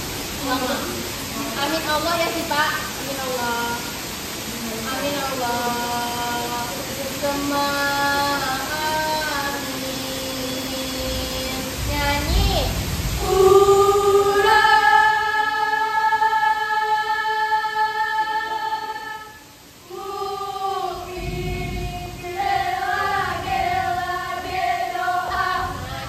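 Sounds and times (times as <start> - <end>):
girls chanting in unison: 0.4 - 26.0.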